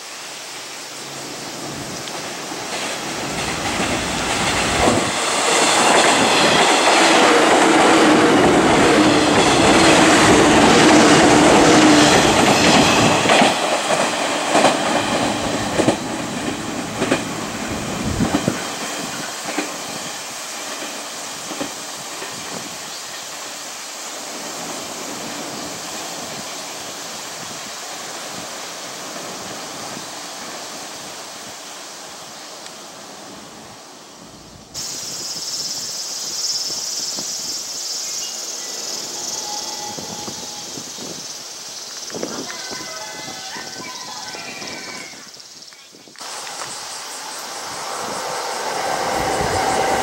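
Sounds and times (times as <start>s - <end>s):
electric train passing: 0.0s - 45.6s, 46.2s - 50.0s
steady high-pitched hiss: 0.0s - 50.0s.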